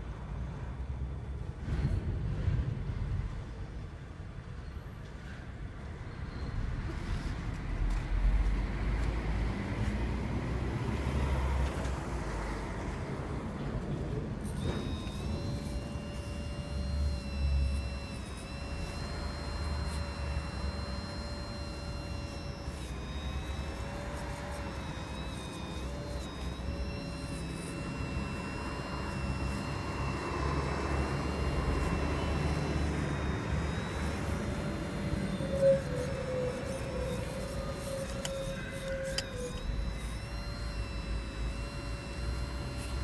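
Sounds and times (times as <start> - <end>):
hydraulic pump whining: 6.3 - 43.0.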